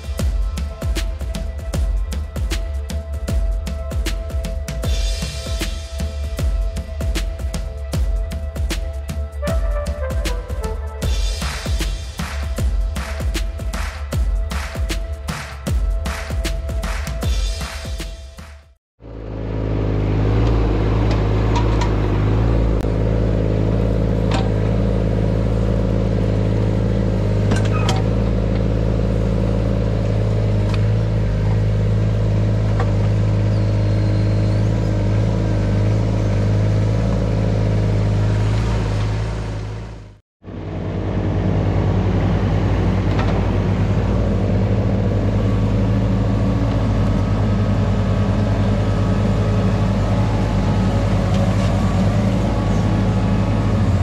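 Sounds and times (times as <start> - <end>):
diesel engine running: 0.0 - 17.8, 19.0 - 54.0.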